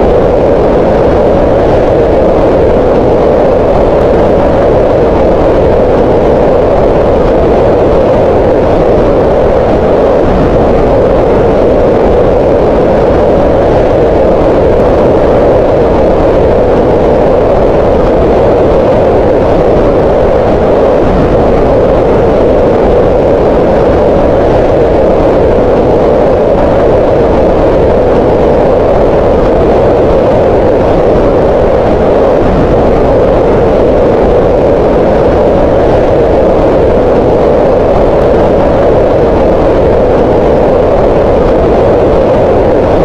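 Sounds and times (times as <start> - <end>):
steady hiss-like noise: 0.0 - 43.0.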